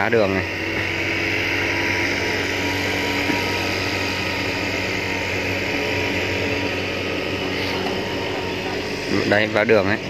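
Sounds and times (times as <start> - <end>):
machine droning with whine: 0.0 - 10.0.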